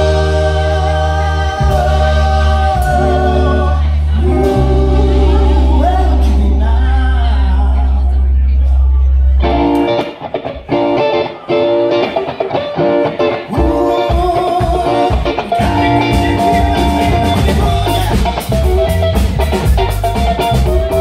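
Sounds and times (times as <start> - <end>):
bass guitar: 0.0 - 21.0
drums: 0.0 - 21.0
electric guitar choppy chords: 0.0 - 21.0.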